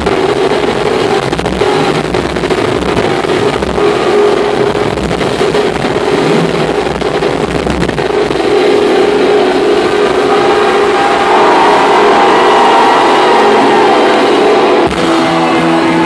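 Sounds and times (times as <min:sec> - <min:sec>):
held droning note: 0:00.0 - 0:16.0.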